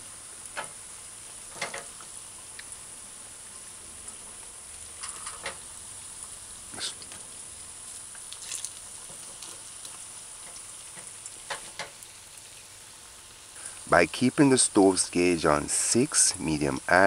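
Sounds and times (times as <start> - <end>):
fritters sizzling in oil: 0.0 - 17.0.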